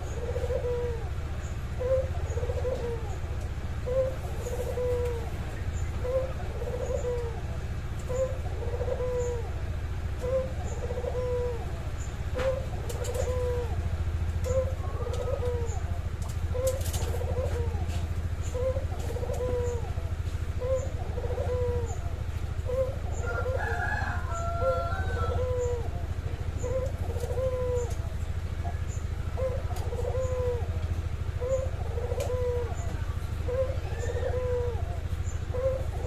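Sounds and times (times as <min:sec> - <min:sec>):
dove cooing: 0:00.0 - 0:36.0
higher bird call: 0:00.0 - 0:36.0
steady low hum: 0:00.0 - 0:36.0.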